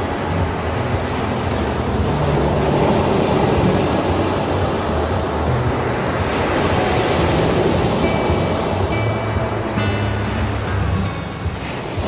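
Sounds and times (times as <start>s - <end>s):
waves washing up a beach: 0.0s - 12.0s.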